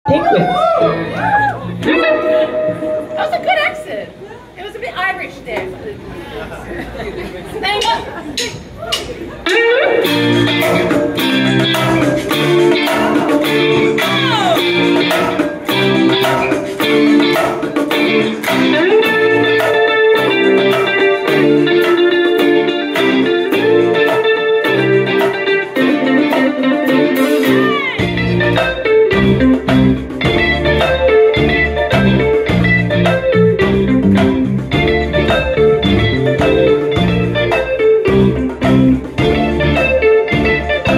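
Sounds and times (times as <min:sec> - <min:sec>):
bass guitar: 0:00.0 - 0:04.3, 0:08.6 - 0:40.9
electric guitar melody: 0:00.1 - 0:04.5, 0:09.4 - 0:40.9
drums and percussion: 0:07.6 - 0:40.9.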